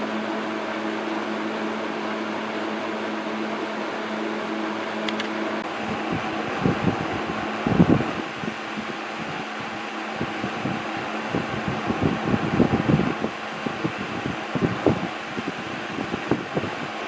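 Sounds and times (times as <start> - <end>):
air gusts buffeting microphone: 0.0 - 17.0
box fan running: 0.0 - 17.0.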